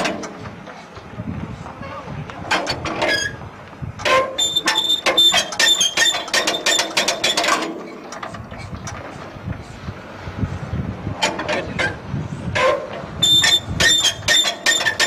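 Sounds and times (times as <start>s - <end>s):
diesel engine cranked by hand: 0.0s - 15.0s.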